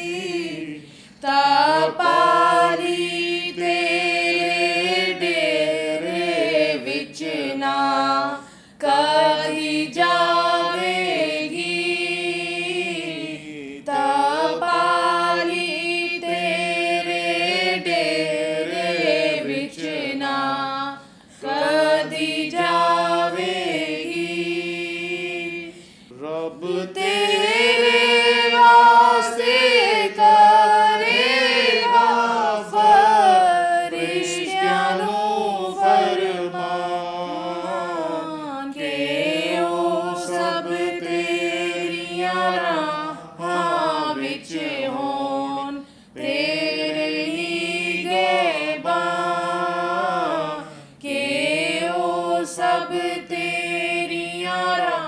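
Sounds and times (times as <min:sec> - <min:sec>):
group singing unaccompanied: 0:00.0 - 0:55.0.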